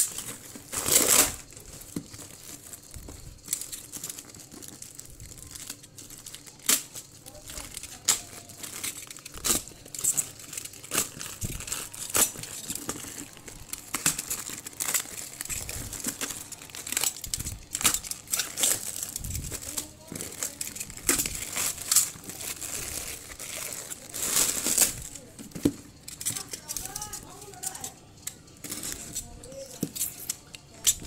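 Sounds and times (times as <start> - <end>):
plastic wrapping crinkling and tearing: 0.0 - 31.0.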